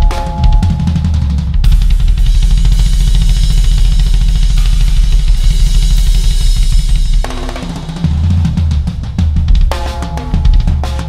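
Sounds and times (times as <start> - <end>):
cymbals: 0.0 - 11.0
rapid bass drum strokes: 0.0 - 11.0.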